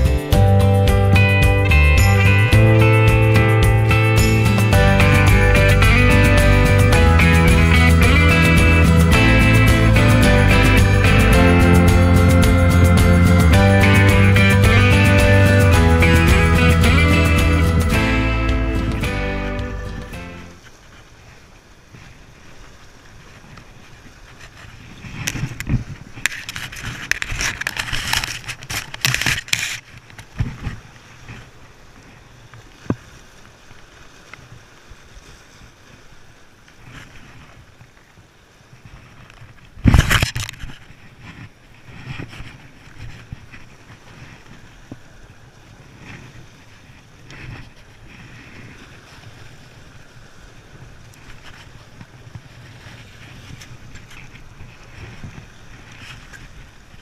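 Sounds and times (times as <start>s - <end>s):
wind buffeting microphone: 0.0s - 32.9s, 37.0s - 57.0s
surf washing against rocks: 0.0s - 57.0s.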